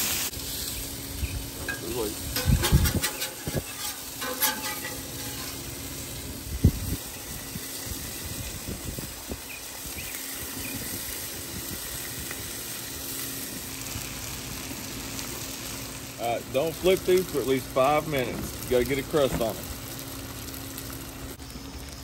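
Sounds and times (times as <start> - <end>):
patties sizzling on griddle: 0.0 - 22.0.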